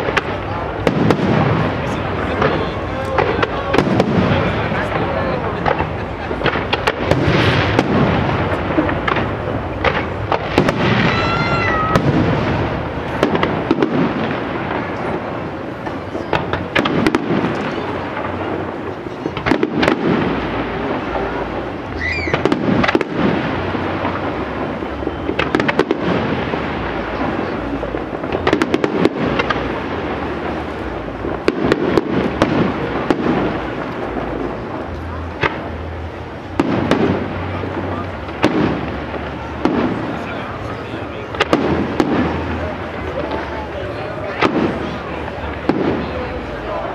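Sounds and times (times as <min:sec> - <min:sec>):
fireworks bursts and booms: 0:00.0 - 0:46.9
sharp bangs: 0:00.0 - 0:46.9.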